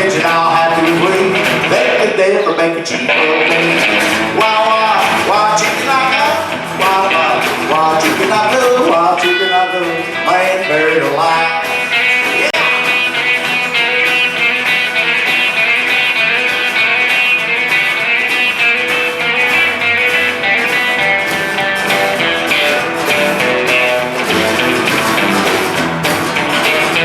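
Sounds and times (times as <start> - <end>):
plucked and strummed guitars: 0.0 - 27.0
upright bass: 0.0 - 27.0
steady drumbeat: 3.1 - 27.0.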